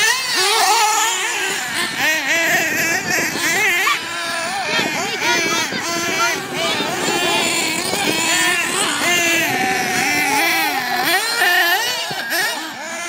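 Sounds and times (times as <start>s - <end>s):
rc car engines revving: 0.0s - 13.0s.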